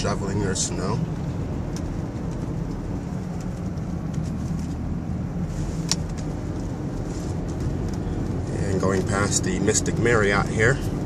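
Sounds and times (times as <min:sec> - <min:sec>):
engine and road rumble in cabin: 0:00.0 - 0:11.0.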